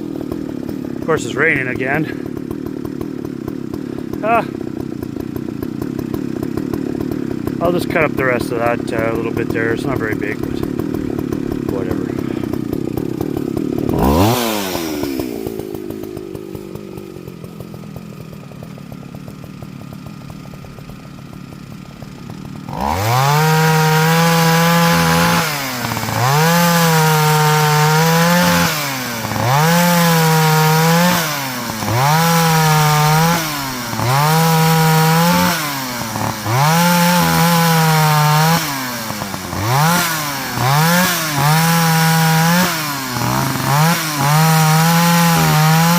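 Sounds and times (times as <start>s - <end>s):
chainsaw cutting wood: 0.0s - 45.9s
chainsaw idling and revving: 0.0s - 45.9s.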